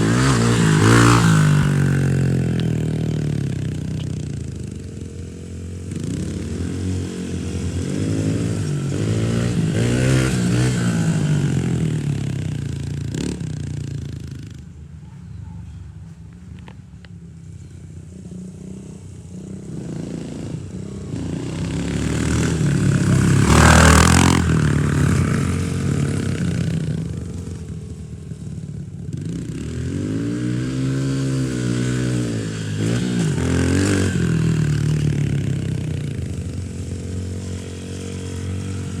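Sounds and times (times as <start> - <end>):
dirt bike engine revving: 0.0 - 14.5, 18.4 - 28.5, 29.1 - 39.0.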